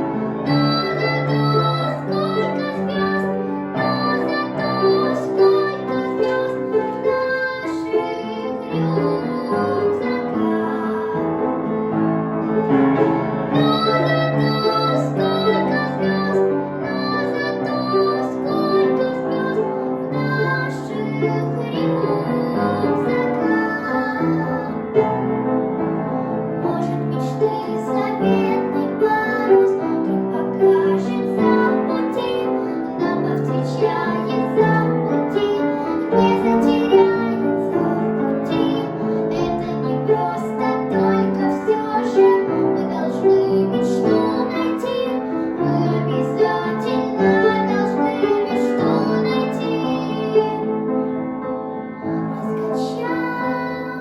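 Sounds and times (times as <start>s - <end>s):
girl singing: 0.0s - 11.9s, 13.4s - 51.1s, 52.0s - 54.0s
piano backing track: 0.0s - 54.0s.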